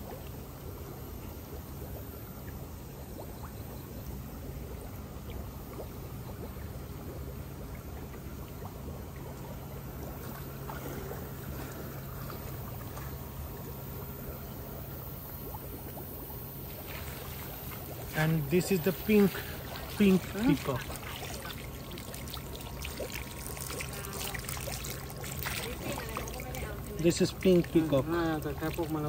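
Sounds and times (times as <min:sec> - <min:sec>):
low steady hum: 0:00.0 - 0:29.0
water running and trickling: 0:00.0 - 0:29.0.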